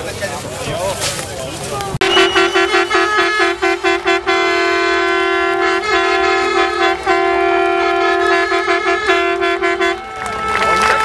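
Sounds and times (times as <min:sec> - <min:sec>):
horn toots and blasts: 0:02.0 - 0:11.0.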